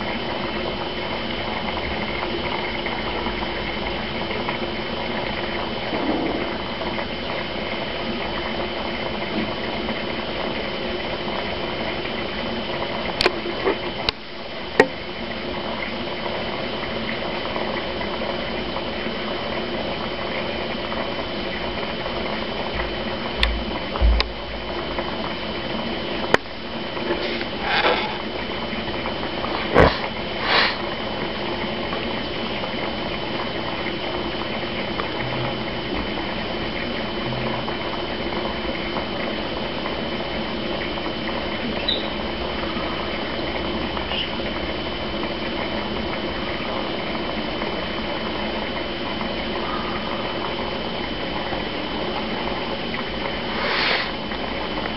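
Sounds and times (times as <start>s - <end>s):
aquarium filter humming: 0.0s - 54.9s.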